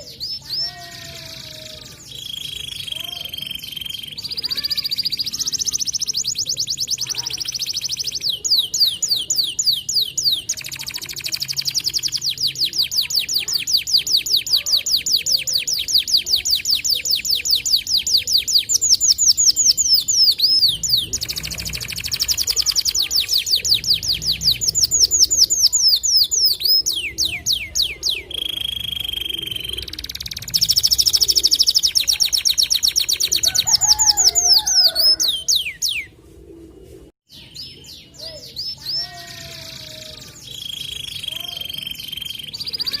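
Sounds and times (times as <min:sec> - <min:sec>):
canary singing trills: 0:00.0 - 0:36.1, 0:37.3 - 0:43.0.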